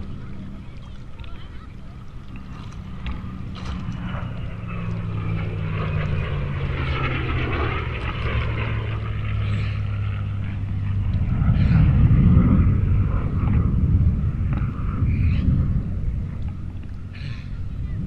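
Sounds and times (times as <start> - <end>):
jet aircraft noise: 0.0 - 18.0.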